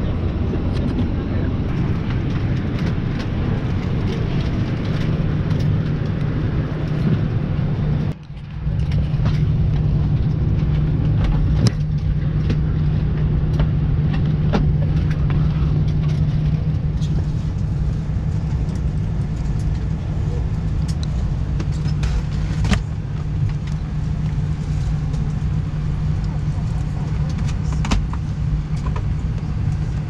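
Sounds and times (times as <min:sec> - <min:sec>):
aircraft cabin hum: 0:00.0 - 0:30.0.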